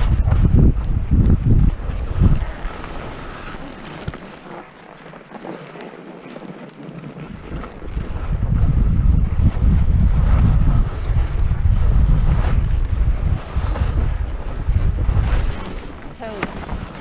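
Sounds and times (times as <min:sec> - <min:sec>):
skis sliding over snow: 0:00.0 - 0:17.0
wind buffeting microphone: 0:00.0 - 0:17.0.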